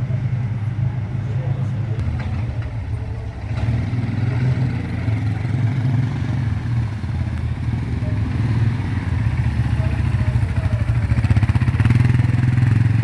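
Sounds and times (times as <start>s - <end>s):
quad bike engine droning: 0.0s - 13.0s.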